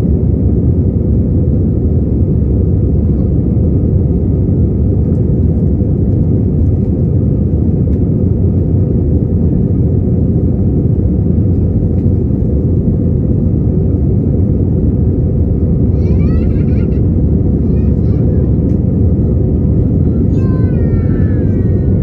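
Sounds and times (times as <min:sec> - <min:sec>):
jet engines and airflow rumble: 0:00.0 - 0:22.0.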